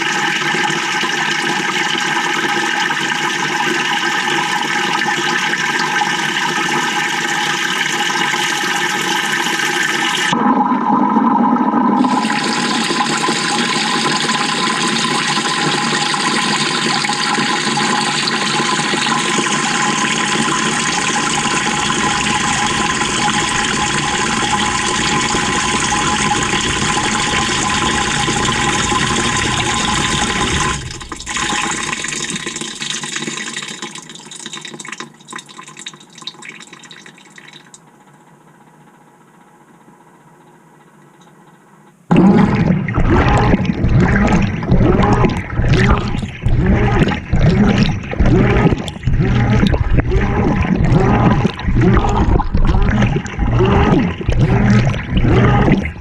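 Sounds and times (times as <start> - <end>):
water churning in washing machine: 0.0 - 37.8, 42.1 - 56.0.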